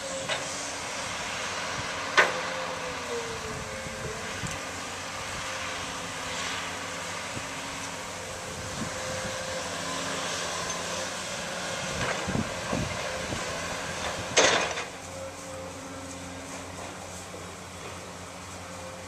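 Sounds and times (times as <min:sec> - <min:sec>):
excavator engine hum: 0:00.0 - 0:19.0.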